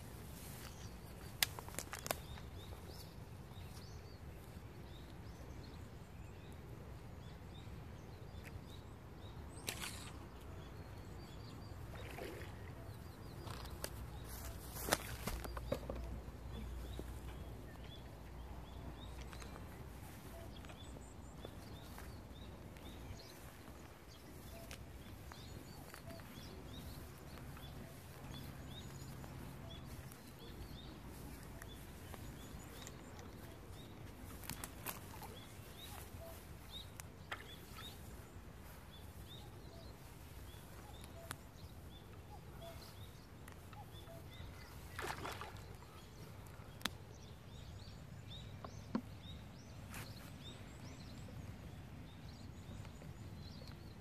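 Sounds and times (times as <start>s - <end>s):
faint low background noise: 0.0s - 54.0s
small birds chirping: 0.0s - 54.0s.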